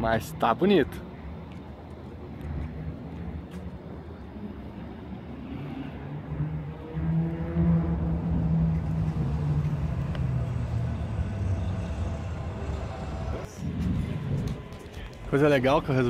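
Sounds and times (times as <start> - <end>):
car engine running at low revs: 2.0 - 15.4.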